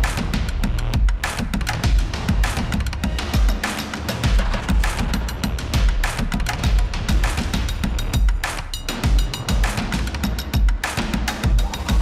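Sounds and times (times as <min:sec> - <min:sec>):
background music: 0:00.0 - 0:12.0
bass drum and snare beat: 0:00.0 - 0:12.0.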